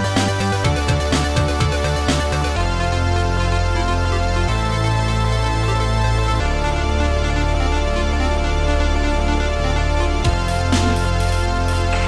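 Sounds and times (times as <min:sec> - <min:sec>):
held bass line: 0:00.0 - 0:12.0.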